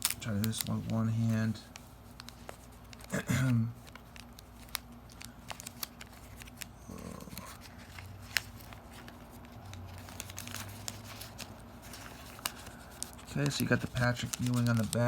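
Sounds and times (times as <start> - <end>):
wax paper crinkling: 0.0 - 15.0.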